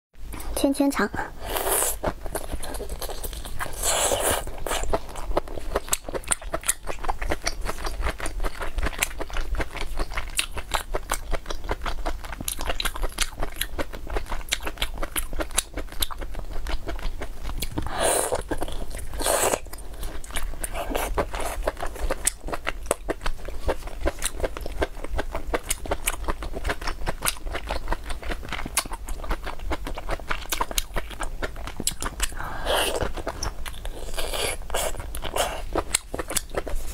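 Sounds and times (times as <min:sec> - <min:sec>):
person chewing and smacking: 0:01.6 - 0:36.9.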